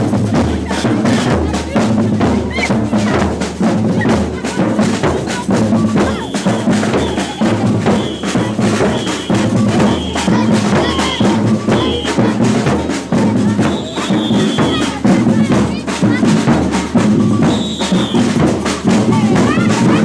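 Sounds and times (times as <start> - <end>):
deep bass drums: 0.0 - 20.0
samba percussion band: 0.0 - 20.0.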